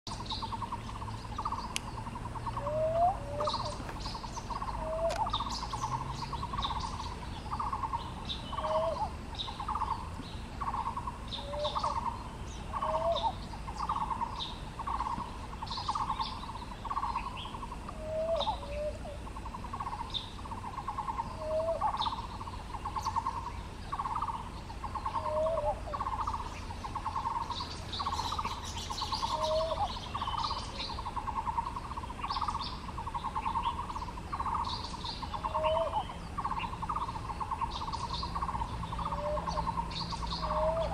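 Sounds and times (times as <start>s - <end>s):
bird calling buzzy notes: 0.1s - 40.9s.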